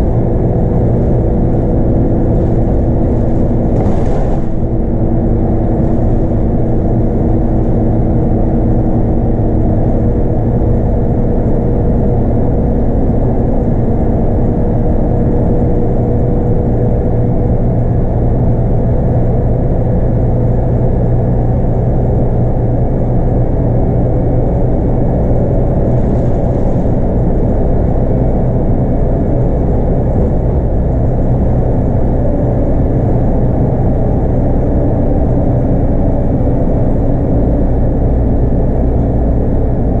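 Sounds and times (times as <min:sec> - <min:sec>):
bus diesel engine drone: 0:00.0 - 0:40.0
road noise: 0:00.0 - 0:40.0.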